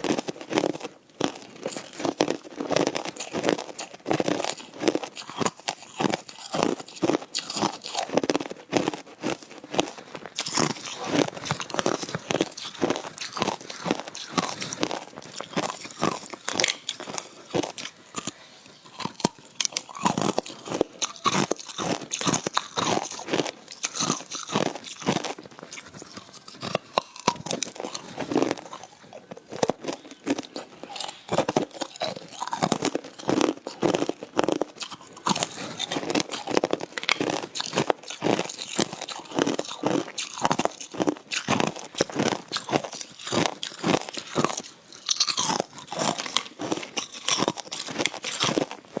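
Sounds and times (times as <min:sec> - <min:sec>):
ice crunching between teeth: 0:00.0 - 0:49.0.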